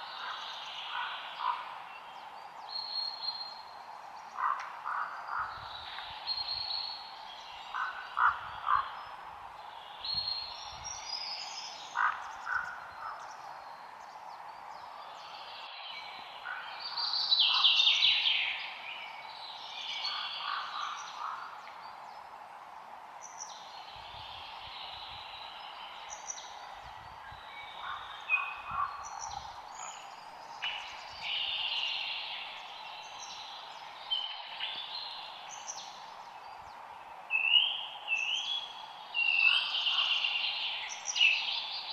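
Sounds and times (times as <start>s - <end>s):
birds singing and calling: 0.0s - 41.9s
steady background hiss: 0.0s - 41.9s.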